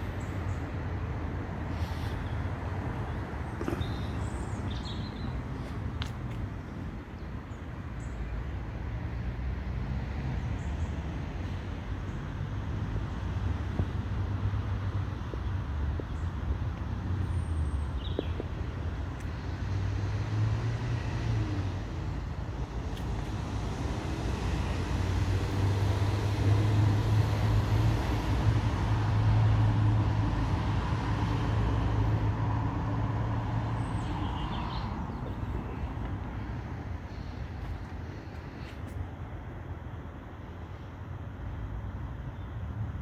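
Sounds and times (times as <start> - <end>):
low engine hum: 0.0 - 43.0
road traffic: 0.0 - 43.0.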